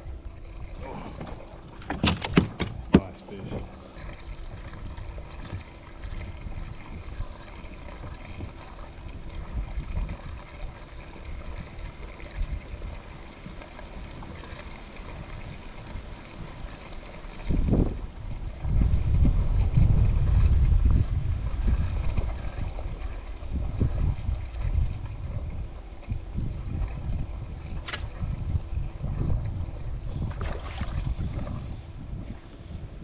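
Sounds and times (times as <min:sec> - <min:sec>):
water trickling and lapping: 0:00.0 - 0:33.0
wind rumbling on microphone: 0:00.0 - 0:33.0.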